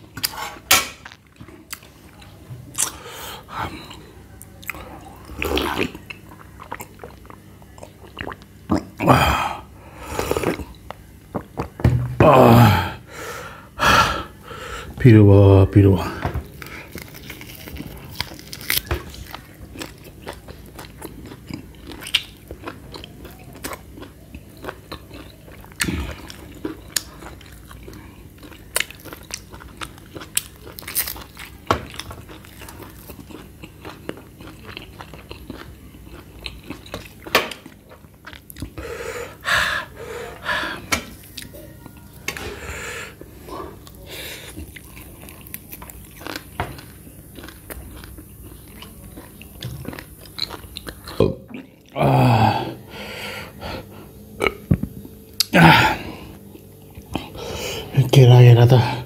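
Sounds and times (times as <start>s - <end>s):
man chewing meat: 0.0s - 15.1s, 15.8s - 59.0s.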